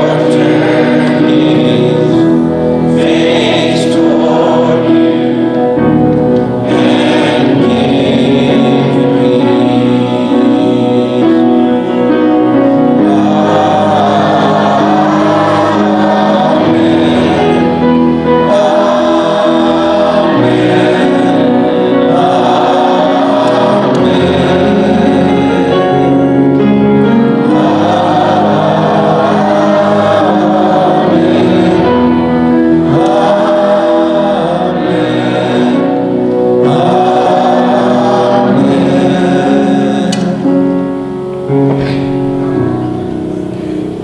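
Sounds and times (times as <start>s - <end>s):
congregation singing: 0.0s - 44.0s
instrumental accompaniment: 0.0s - 44.0s.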